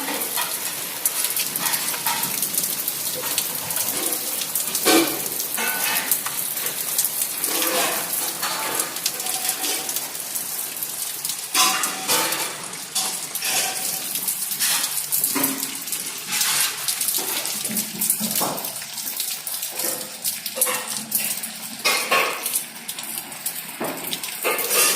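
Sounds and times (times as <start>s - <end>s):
water running: 0.0s - 24.9s.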